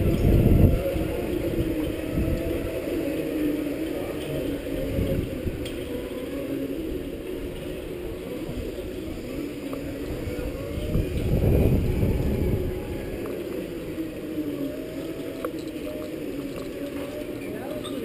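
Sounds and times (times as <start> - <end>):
low rolling rumble: 0.0 - 18.0
motors whining: 0.0 - 18.0.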